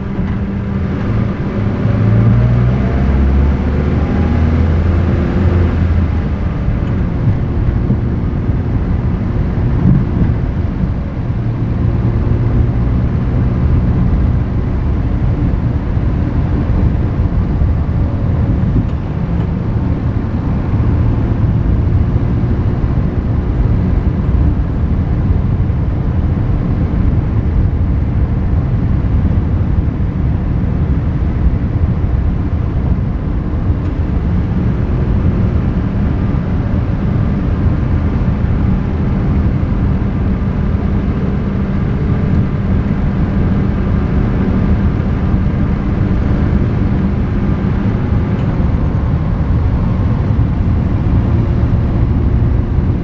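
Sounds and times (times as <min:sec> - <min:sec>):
car engine: 0:00.0 - 0:53.0
tyres rumbling on asphalt: 0:00.0 - 0:53.0.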